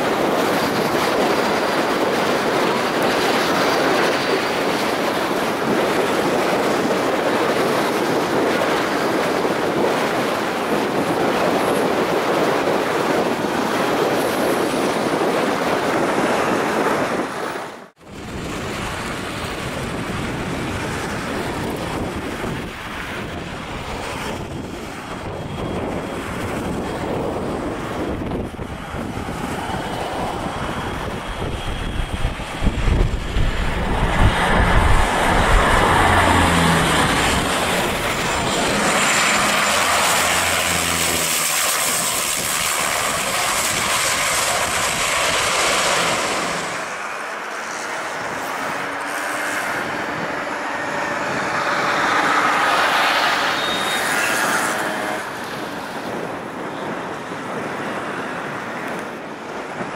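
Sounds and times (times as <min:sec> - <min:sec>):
turboprop aircraft engine drone: 0:00.0 - 0:59.9
wind rumbling on microphone: 0:00.0 - 0:59.9.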